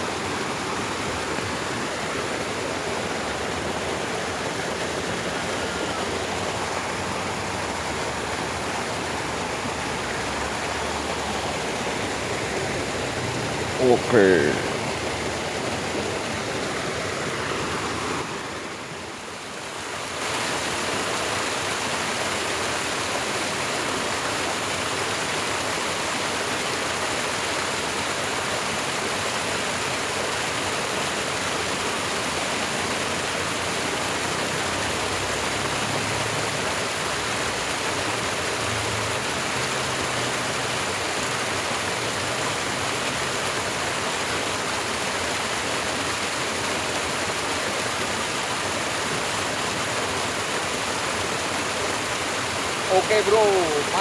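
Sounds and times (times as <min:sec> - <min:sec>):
water flowing in a ditch: 0:00.0 - 0:54.0.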